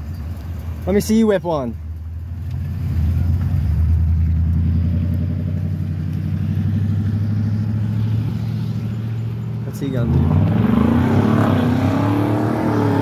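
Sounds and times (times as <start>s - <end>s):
truck engine running at low revs: 0.0s - 13.0s.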